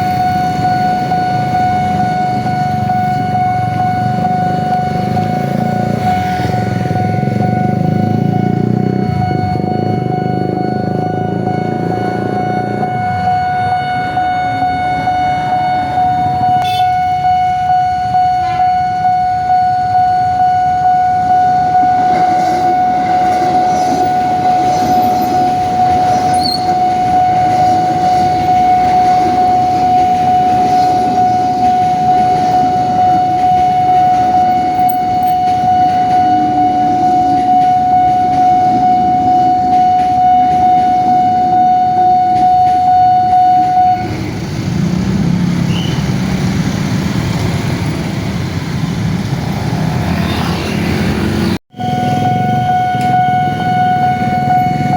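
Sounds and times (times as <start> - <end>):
level-crossing alarm tone: 0.0 - 54.9
passing train rumble: 0.0 - 54.9.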